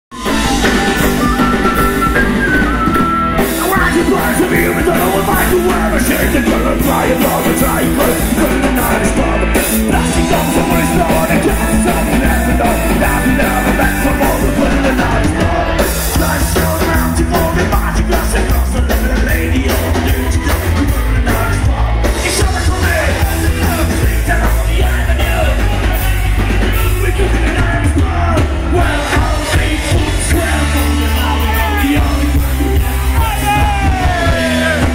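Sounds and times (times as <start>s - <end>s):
live rock band playing: 0.1s - 34.9s
person singing: 0.1s - 34.9s.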